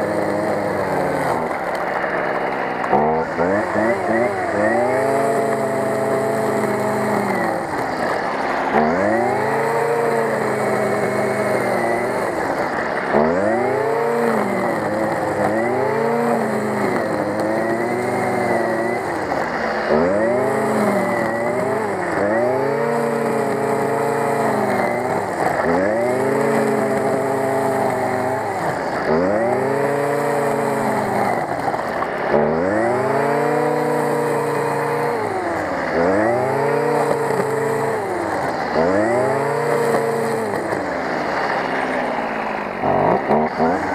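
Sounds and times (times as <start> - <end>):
brush cutter engine cutting grass: 0.0 - 43.9.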